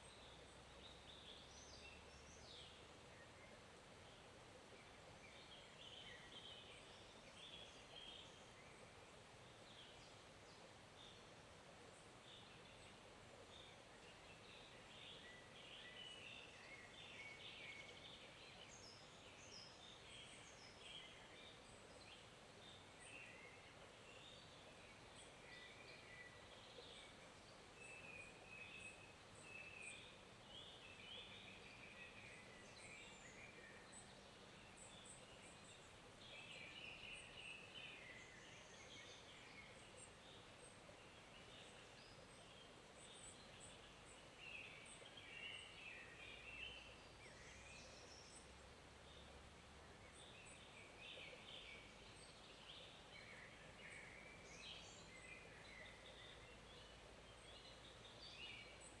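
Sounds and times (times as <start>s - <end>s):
faint stream flowing: 0.0s - 59.0s.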